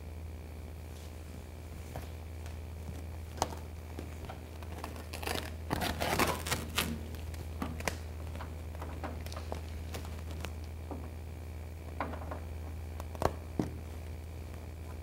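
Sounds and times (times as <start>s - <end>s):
steady low hum: 0.0s - 15.0s
vinyl sheet crinkling: 0.9s - 15.0s.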